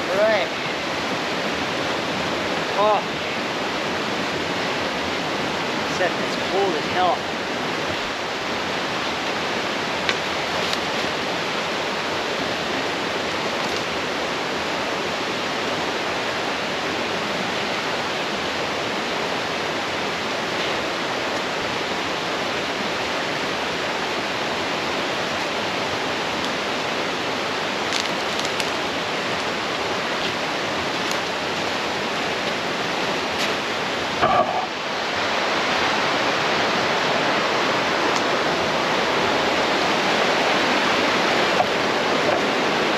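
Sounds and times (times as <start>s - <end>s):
brook water rushing: 0.0s - 42.9s.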